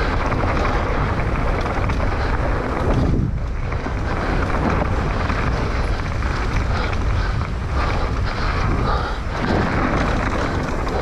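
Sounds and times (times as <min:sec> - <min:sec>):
mountain bike rumbling and rattling: 0:00.0 - 0:11.0
wind buffeting microphone: 0:00.0 - 0:11.0.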